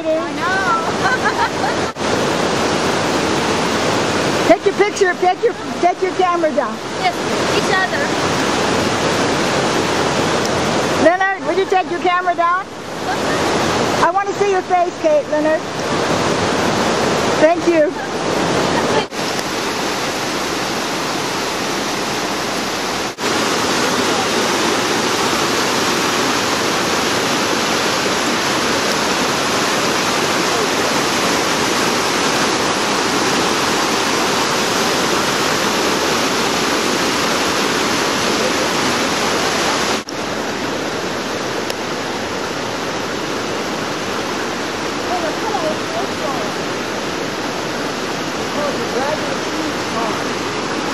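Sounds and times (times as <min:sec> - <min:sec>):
stream rushing over boulders: 0:00.0 - 0:50.9.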